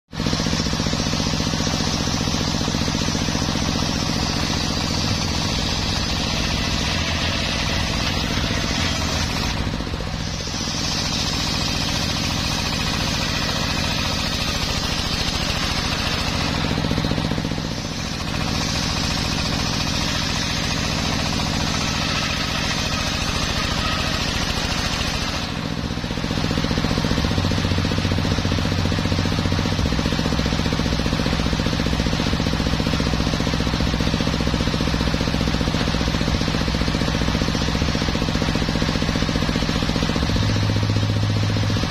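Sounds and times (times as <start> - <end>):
motor hum: 0.1 - 41.9
saw blade cutting log: 0.1 - 41.9.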